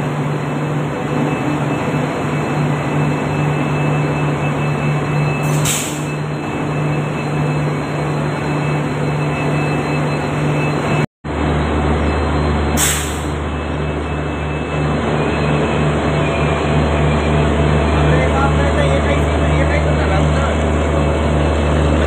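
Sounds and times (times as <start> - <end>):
deep train rumble: 0.0 - 22.0
diesel locomotive engine drone: 0.0 - 22.0.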